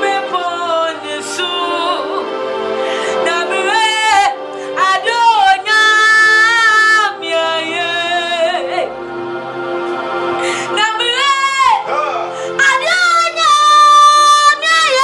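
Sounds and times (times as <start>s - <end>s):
woman singing gospel song: 0.0s - 2.3s, 3.1s - 8.9s, 10.5s - 11.9s, 12.5s - 15.0s
sustained backing chords: 0.0s - 15.0s.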